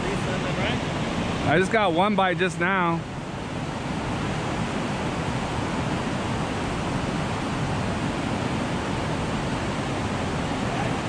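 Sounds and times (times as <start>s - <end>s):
whitewater rushing through rapids: 0.0s - 11.0s.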